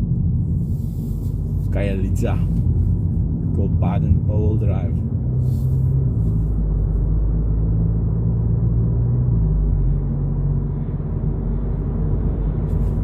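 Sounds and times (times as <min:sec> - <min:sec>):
car engine from inside cabin: 0:00.0 - 0:13.0.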